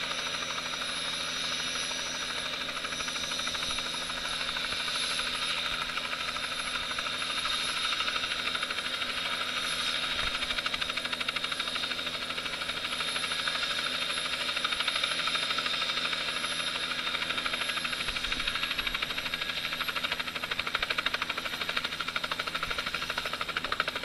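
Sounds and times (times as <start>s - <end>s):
helicopter engine whine: 0.0s - 24.0s
helicopter rotor blades beating: 0.0s - 24.0s.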